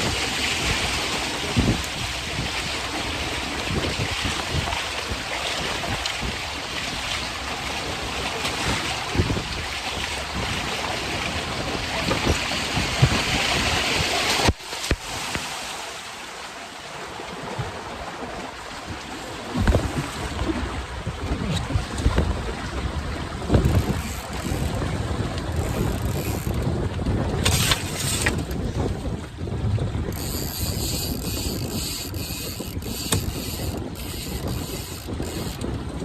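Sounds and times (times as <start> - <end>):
wind buffeting microphone: 0.0 - 14.2, 18.8 - 36.0
water splashing along hulls: 0.0 - 36.0.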